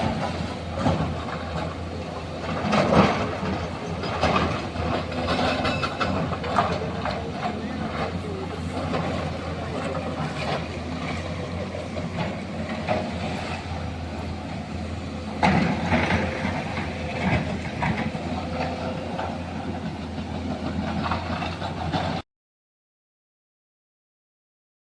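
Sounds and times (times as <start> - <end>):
diesel engine running: 0.0 - 22.2.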